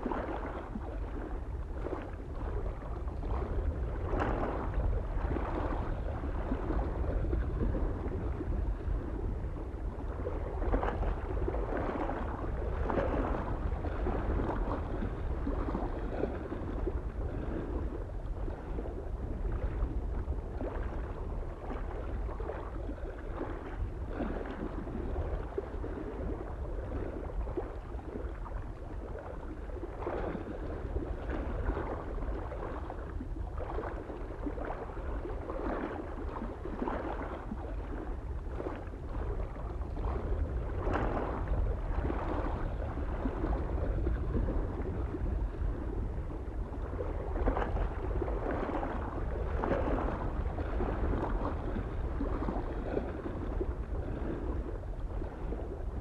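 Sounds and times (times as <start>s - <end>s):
small waves lapping on shore: 0.0s - 56.0s
soft wind rumble: 0.0s - 56.0s.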